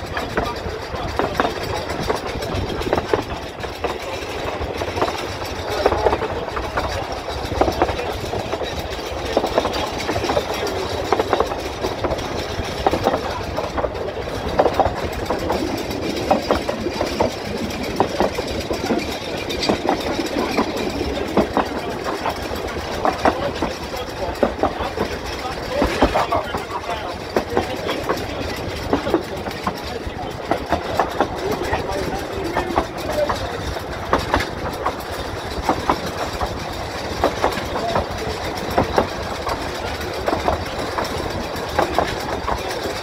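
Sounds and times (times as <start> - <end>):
train running rumble: 0.0 - 43.0
wheels clicking over rail joints: 0.0 - 43.0.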